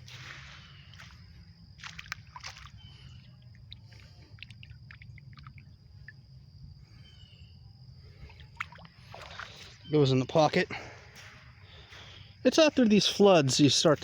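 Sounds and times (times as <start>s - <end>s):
creek water sloshing and trickling: 0.0s - 7.0s, 7.9s - 13.9s.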